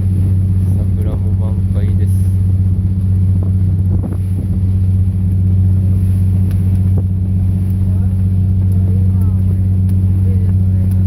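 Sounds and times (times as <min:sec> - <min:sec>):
boat diesel engine humming: 0:00.0 - 0:11.0.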